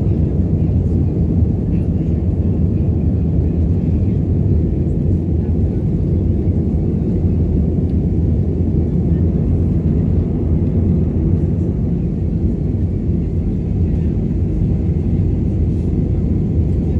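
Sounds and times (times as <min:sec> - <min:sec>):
jet engines roaring in cabin: 0:00.0 - 0:16.9.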